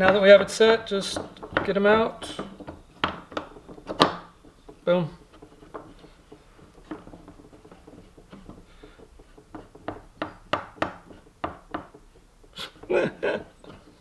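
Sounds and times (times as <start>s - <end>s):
metal tools clicking and knocking: 0.0s - 14.0s.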